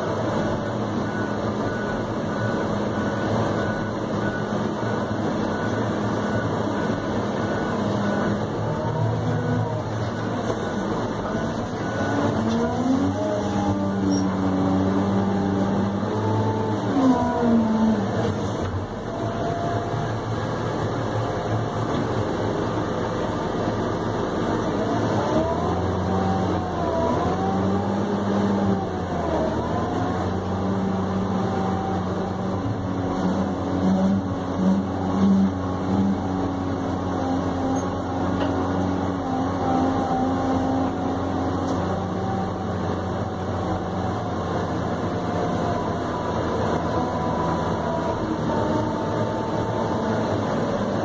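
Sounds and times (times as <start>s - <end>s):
diesel engine running: 0.0s - 51.0s
dump truck passing: 0.0s - 51.0s.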